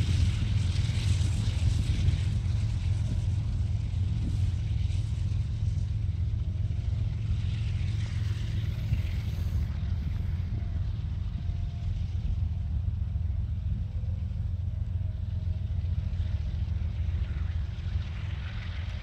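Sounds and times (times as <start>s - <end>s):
freight train rumbling: 0.0s - 19.0s.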